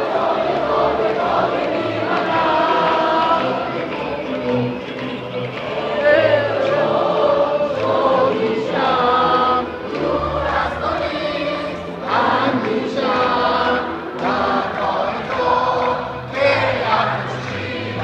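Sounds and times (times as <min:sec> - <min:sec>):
crowd singing in unison: 0:00.0 - 0:18.0.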